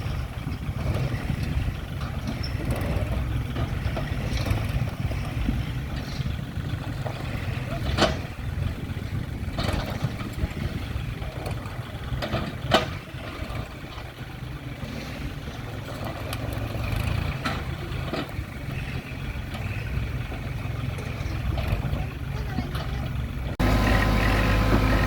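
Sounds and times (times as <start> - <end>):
heavy diesel machinery rumbling: 0.0 - 25.0.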